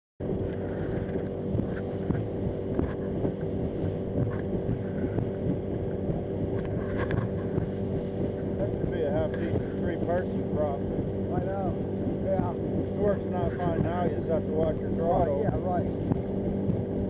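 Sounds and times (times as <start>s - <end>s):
outboard motor droning: 0.2s - 17.0s
wind on microphone: 0.2s - 17.0s.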